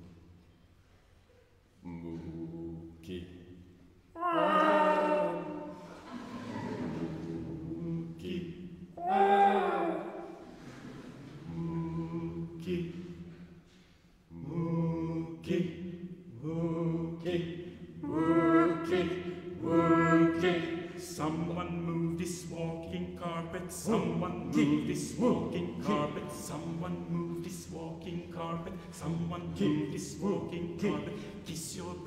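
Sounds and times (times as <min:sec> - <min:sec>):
male vocal quartet singing: 0:04.2 - 0:10.4, 0:11.4 - 0:13.2, 0:14.3 - 0:32.0.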